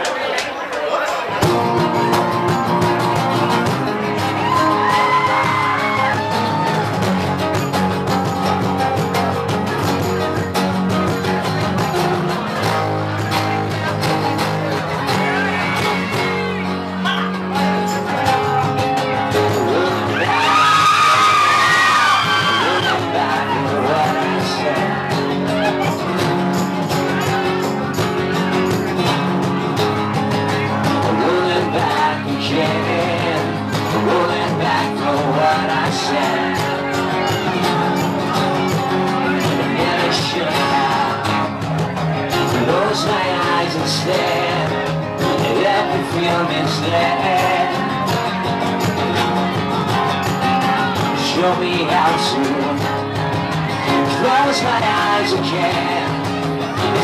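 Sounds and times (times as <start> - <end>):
acoustic guitars strumming: 0.9 - 57.0
live band playing: 1.2 - 57.0
man singing: 1.4 - 10.0, 11.2 - 26.4, 30.3 - 57.0
box drum beat: 1.4 - 57.0.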